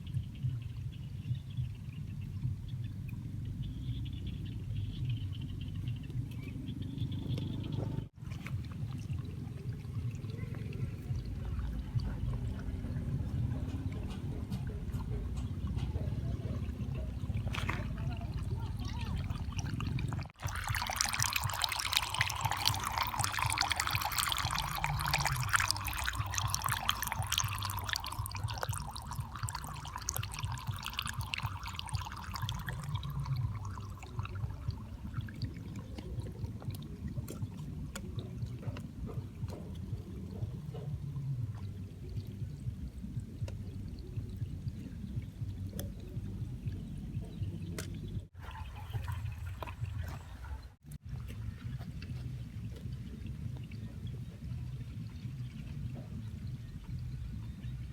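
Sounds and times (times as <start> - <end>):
low steady hum: 0.0 - 57.9
water pouring and trickling: 0.0 - 57.9.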